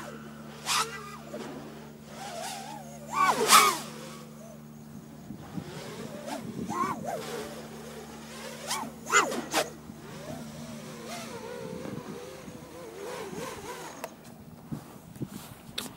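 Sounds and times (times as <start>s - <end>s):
drone propellers whining: 0.0s - 15.2s.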